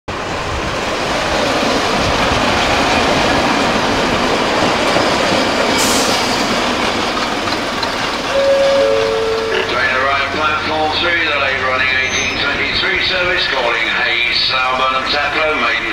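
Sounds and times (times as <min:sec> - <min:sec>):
train rumbling on rails: 0:00.1 - 0:15.9.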